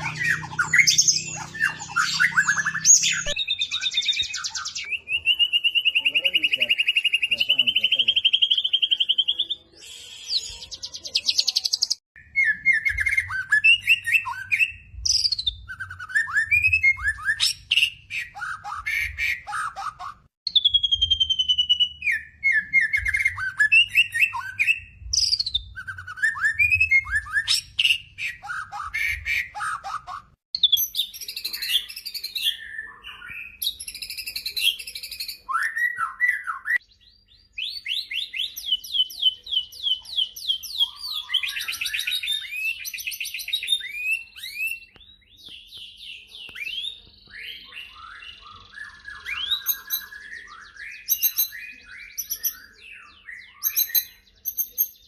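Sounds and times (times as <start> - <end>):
bird whistles and warbles: 0.0 - 55.0.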